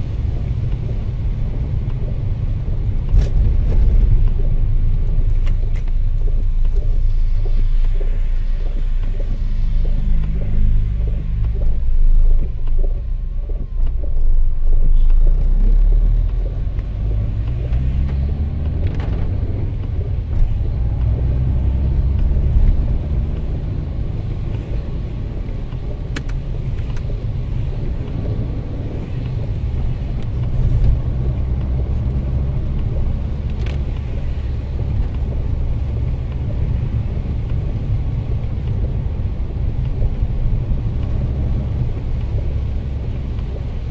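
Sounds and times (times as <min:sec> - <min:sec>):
car engine and road rumble: 0:00.0 - 0:43.9
tyre noise on wet road: 0:00.0 - 0:43.9.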